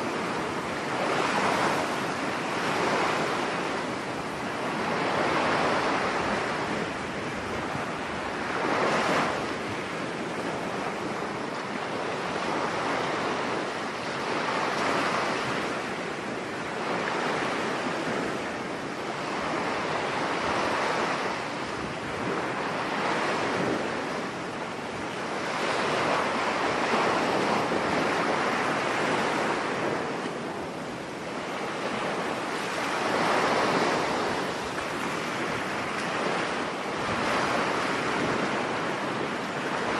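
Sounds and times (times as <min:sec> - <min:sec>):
surf waves breaking: 0:00.0 - 0:39.9.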